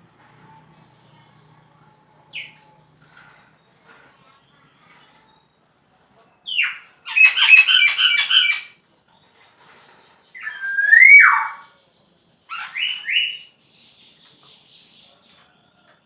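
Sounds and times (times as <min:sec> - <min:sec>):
bird singing: 0:00.0 - 0:05.6, 0:06.4 - 0:16.0.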